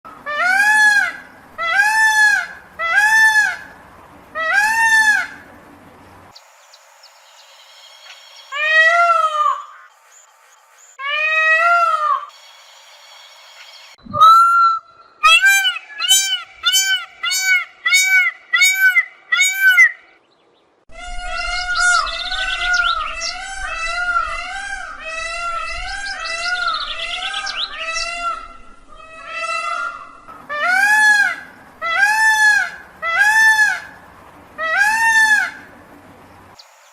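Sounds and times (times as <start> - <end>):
peacock calling: 0.1 - 6.4, 8.0 - 10.0, 11.0 - 12.5, 14.1 - 20.2, 20.9 - 36.7.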